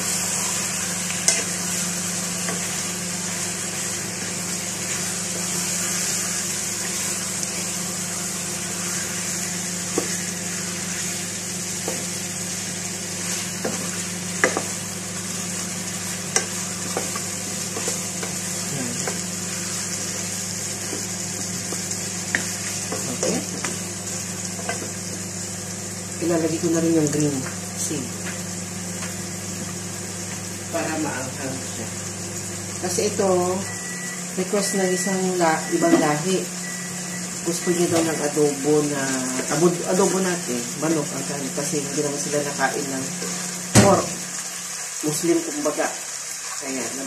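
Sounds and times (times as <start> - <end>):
chicken sizzling in oil: 0.0 - 47.0.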